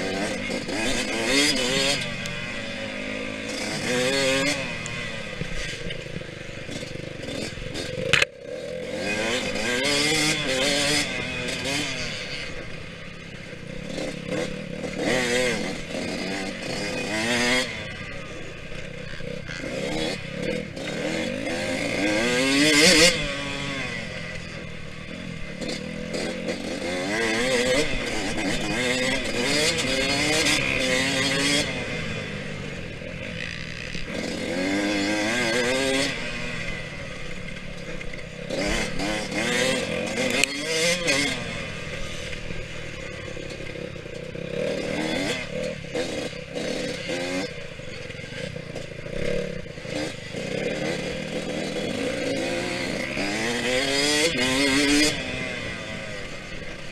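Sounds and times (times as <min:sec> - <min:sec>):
two-stroke motorcycle engine revving: 0:00.0 - 0:56.9.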